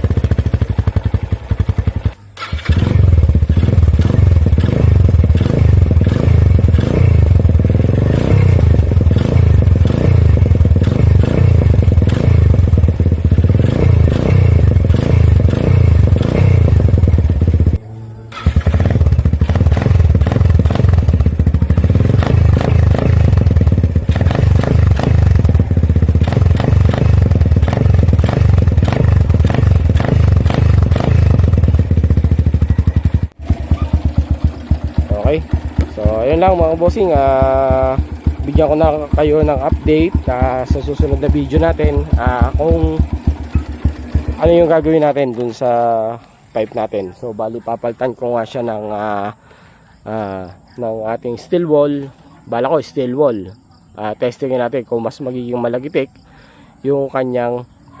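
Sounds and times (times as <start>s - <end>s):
motorcycle engine exhaust note: 0.0s - 47.2s.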